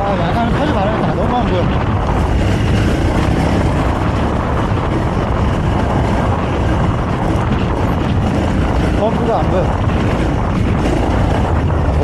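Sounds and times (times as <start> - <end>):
motorcycle engine running: 0.0 - 12.0
steady noisy rush: 0.0 - 12.0.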